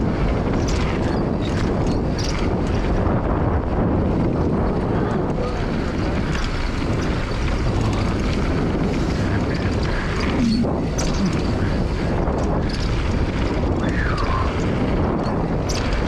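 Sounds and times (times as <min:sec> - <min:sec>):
tyres rolling on dirt trail: 0:00.0 - 0:16.0
wind buffeting microphone: 0:00.0 - 0:16.0.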